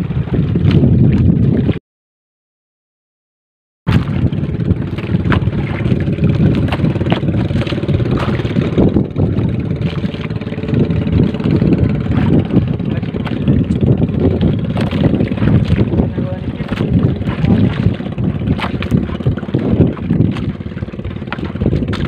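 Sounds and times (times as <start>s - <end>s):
boat low rumble: 0.0s - 1.8s, 3.9s - 22.0s
wind on microphone: 0.0s - 1.8s, 3.9s - 22.0s.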